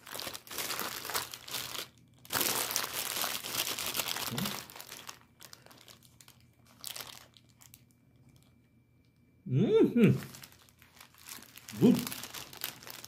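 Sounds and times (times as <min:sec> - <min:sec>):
food wrapping crinkling: 0:00.0 - 0:08.5, 0:10.1 - 0:13.0.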